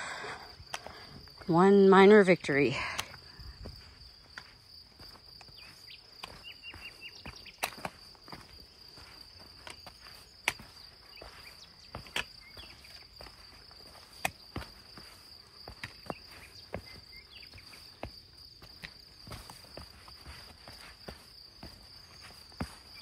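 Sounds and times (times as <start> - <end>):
footsteps crunching on trail: 0.0 - 23.0
trekking pole tapping ground: 4.4 - 23.0.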